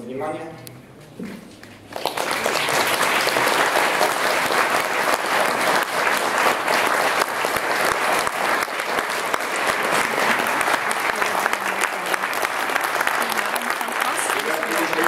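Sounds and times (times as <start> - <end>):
audience applauding: 1.8 - 15.0.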